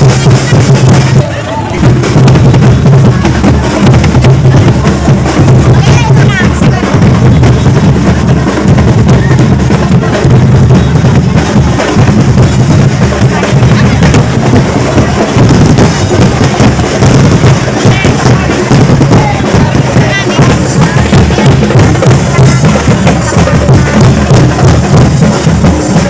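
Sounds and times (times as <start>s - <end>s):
loud music with heavy drum beat: 0.0s - 26.0s
voices: 0.0s - 26.0s.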